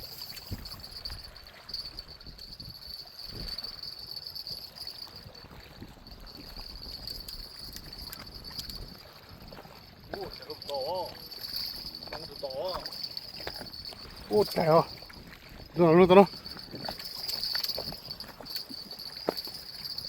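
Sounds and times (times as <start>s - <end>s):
high-pitched insect trill: 0.0s - 5.4s, 6.2s - 9.0s, 10.1s - 15.2s, 16.2s - 20.0s.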